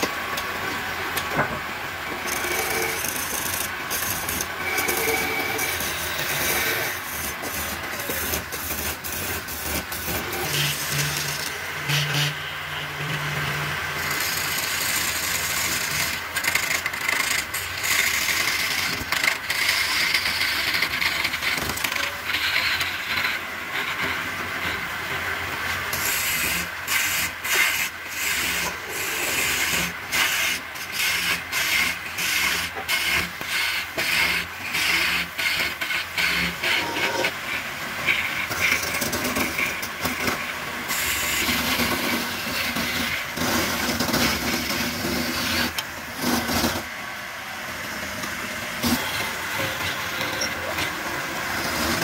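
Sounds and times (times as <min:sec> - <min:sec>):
chisel rasping on turning wood: 0:02.2 - 0:24.8, 0:25.9 - 0:46.8.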